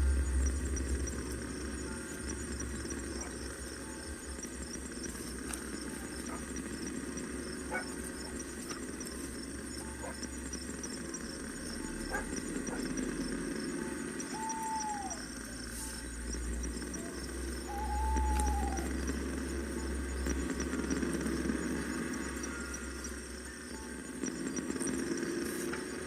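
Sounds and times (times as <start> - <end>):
campfire crackling: 0.0 - 26.0
drawn-out animal calls: 0.0 - 26.0
insect trill: 0.0 - 26.0.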